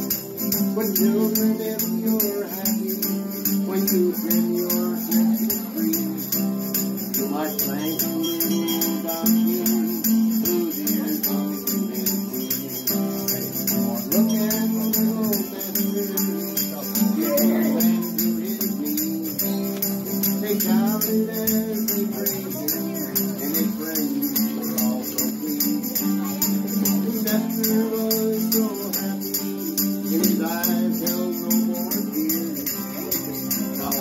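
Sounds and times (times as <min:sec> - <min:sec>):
guitar strumming: 0:00.0 - 0:34.0
tambourine jingling: 0:00.0 - 0:34.0.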